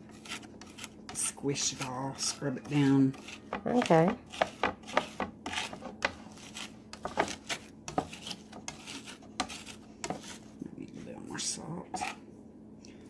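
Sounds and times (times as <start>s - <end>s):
knife scraping garlic paste: 0.0s - 10.5s, 12.0s - 12.2s.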